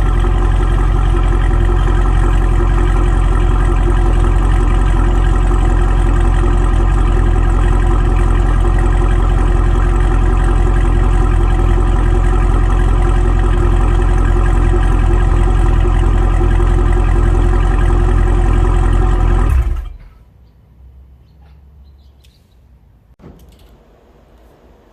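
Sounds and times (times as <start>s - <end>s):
car engine idling: 0.0s - 20.2s
engine shutting off: 0.0s - 20.2s.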